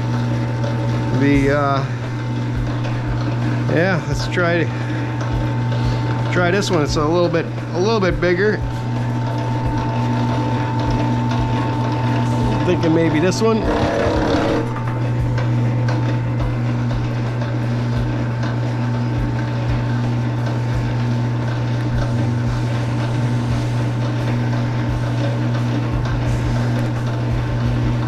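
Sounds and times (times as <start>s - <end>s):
wire-stripping machine humming: 0.0s - 28.0s.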